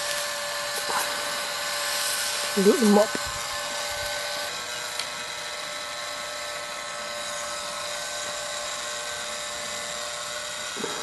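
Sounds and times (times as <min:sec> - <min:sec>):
rotisserie motor whining: 0:00.0 - 0:11.0.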